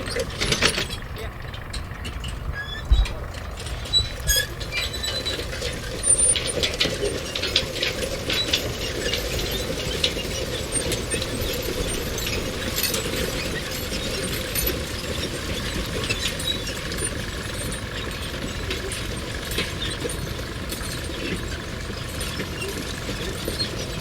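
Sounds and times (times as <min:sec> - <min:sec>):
metallic clanks and rattles: 0:00.0 - 0:24.0
steady mechanical drone: 0:00.0 - 0:24.0.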